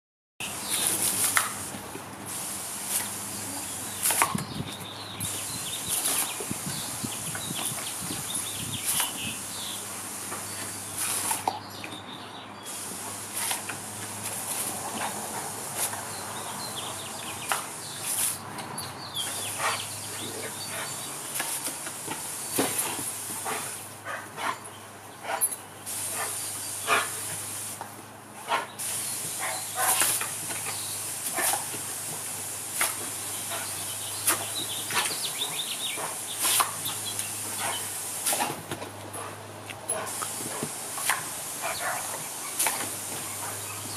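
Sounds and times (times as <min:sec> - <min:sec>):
garden hose spraying water: 0:00.4 - 0:11.9, 0:12.6 - 0:43.9.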